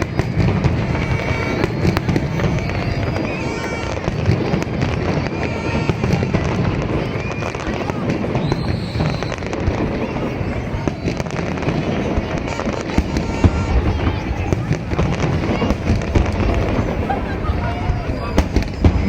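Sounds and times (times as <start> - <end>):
crowd chatter: 0.0 - 19.0
fireworks bangs and crackles: 0.0 - 19.0.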